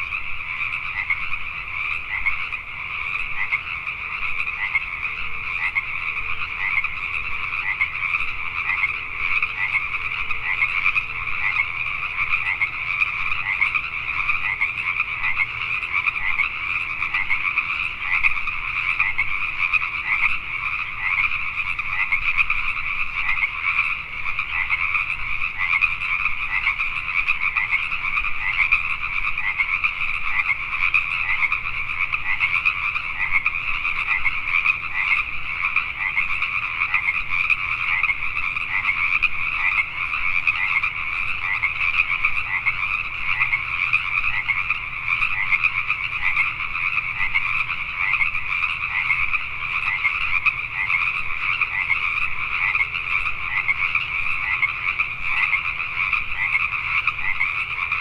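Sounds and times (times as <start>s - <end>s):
chorus of tree frogs: 0.0s - 58.0s.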